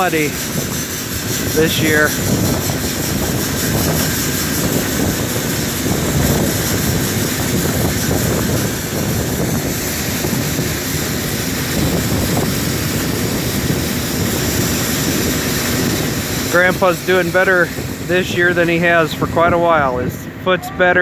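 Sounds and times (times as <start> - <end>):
farm machinery running: 0.0 - 21.0
wind buffeting microphone: 0.0 - 21.0.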